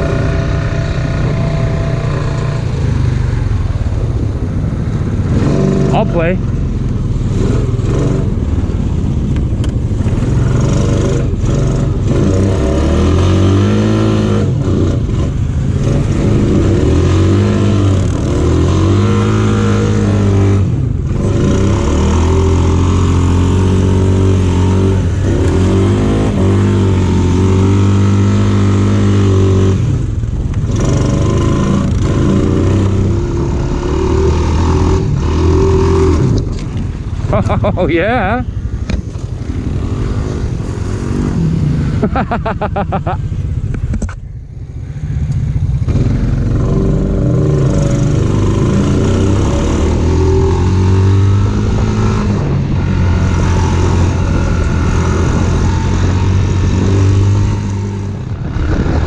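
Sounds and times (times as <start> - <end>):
off-road vehicle engine revving: 0.0 - 4.4, 5.0 - 43.2, 44.9 - 59.0.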